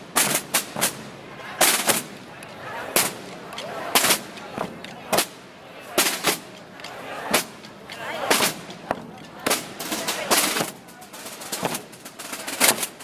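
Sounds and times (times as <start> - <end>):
crowd murmuring: 0.0 - 13.0.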